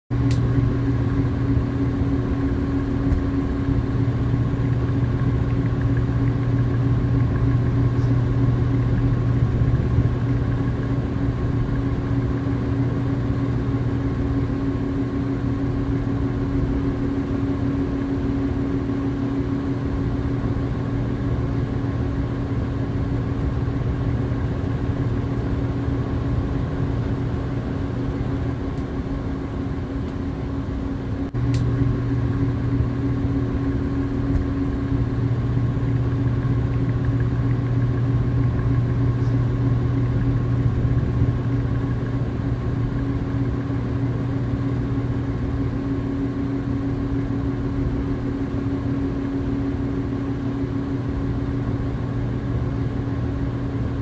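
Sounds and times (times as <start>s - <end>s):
steady mechanical hum: 0.1s - 54.0s.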